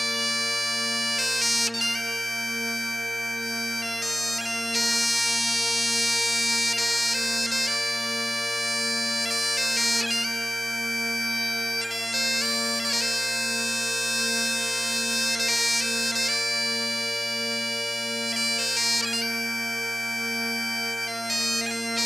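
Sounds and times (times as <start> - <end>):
instrumental melody over drone: 0.0 - 22.0.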